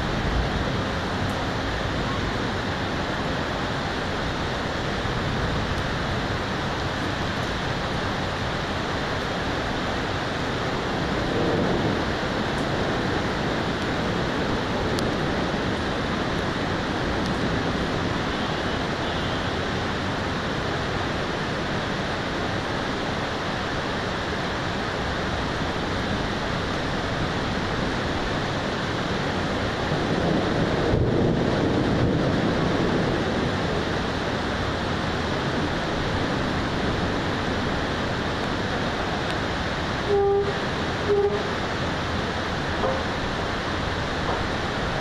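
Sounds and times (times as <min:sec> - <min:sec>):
heavy rain and wind: 0:00.0 - 0:45.0.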